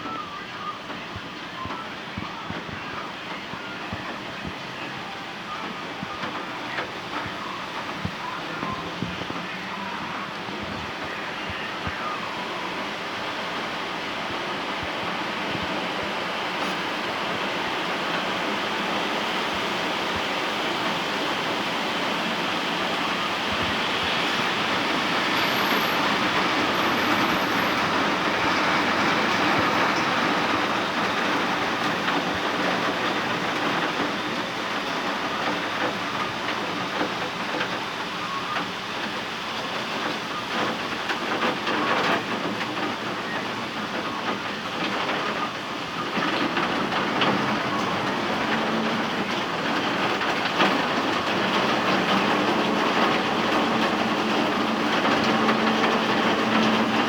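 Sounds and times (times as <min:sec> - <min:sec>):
rain with wind: 0:00.0 - 0:57.0.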